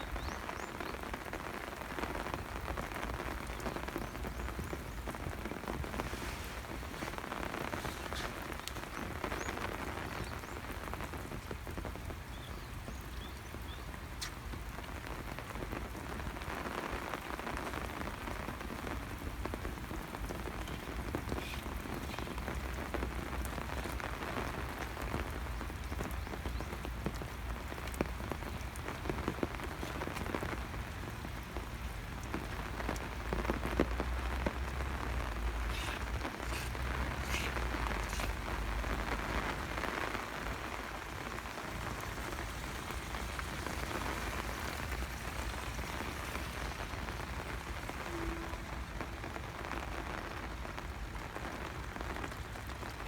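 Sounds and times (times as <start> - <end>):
rain spattering on hard surfaces: 0.0 - 53.0.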